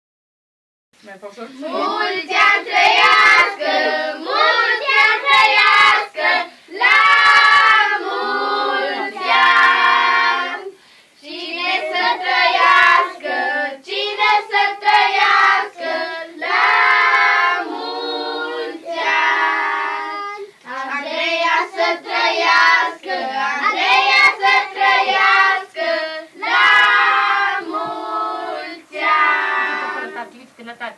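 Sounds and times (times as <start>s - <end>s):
children and adults singing: 1.4s - 30.5s.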